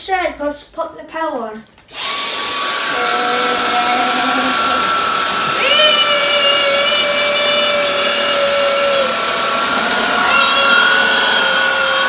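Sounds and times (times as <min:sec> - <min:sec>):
cordless vacuum high whine: 0:01.9 - 0:12.0.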